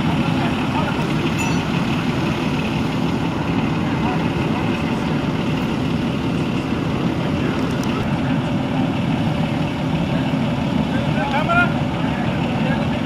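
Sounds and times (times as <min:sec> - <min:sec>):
large vehicle engine idling: 0:00.0 - 0:13.0.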